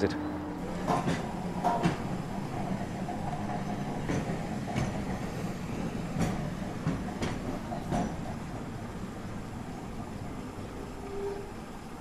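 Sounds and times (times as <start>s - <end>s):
tram rumbling on rails: 0.0s - 12.0s
wheels clacking on track: 0.0s - 12.0s.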